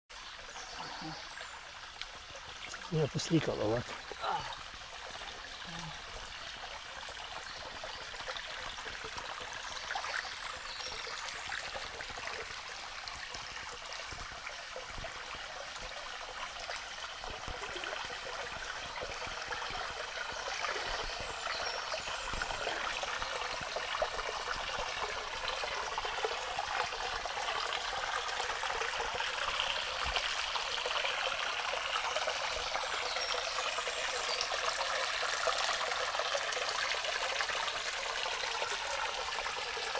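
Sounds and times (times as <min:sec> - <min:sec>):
brook trickling over stones: 0:00.1 - 0:39.9.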